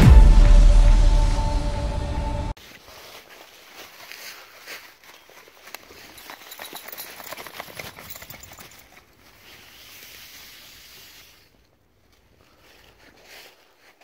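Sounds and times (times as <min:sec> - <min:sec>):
footsteps crunching dry leaves: 0:02.6 - 0:14.0.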